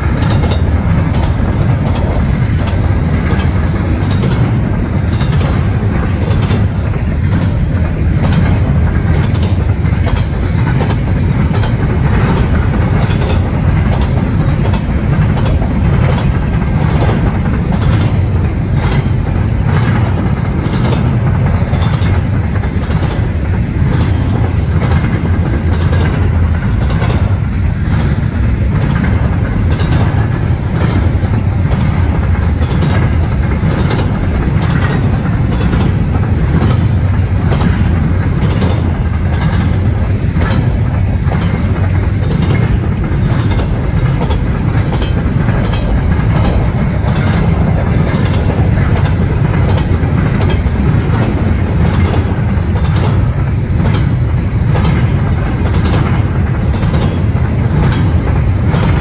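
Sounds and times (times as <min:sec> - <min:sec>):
steel wheels on rail: 0:00.0 - 0:59.0
wheels clicking over rail joints: 0:00.0 - 0:59.0.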